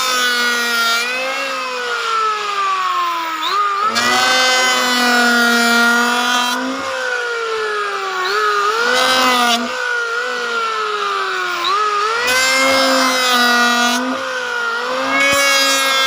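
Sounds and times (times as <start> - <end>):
power tool cutting wood: 0.0 - 16.0
power tool motor whining: 0.0 - 16.0.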